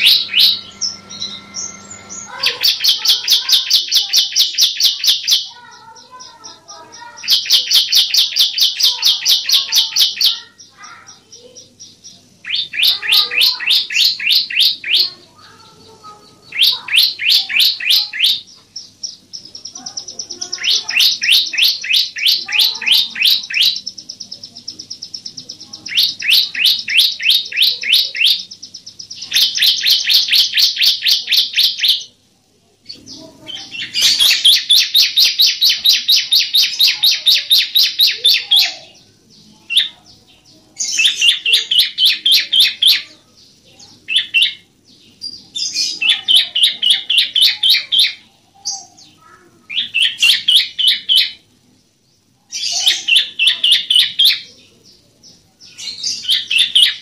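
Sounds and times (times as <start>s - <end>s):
bird singing rapid high notes: 0.0s - 32.2s, 32.9s - 51.7s, 52.5s - 55.0s.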